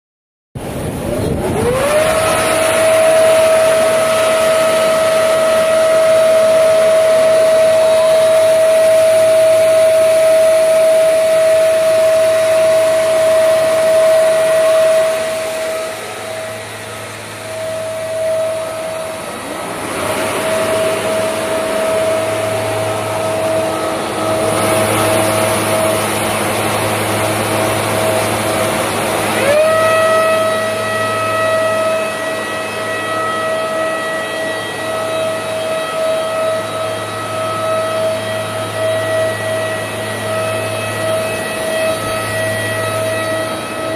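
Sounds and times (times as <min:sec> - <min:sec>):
low hum: 0:00.6 - 0:43.9
planer motors whining: 0:00.6 - 0:43.9.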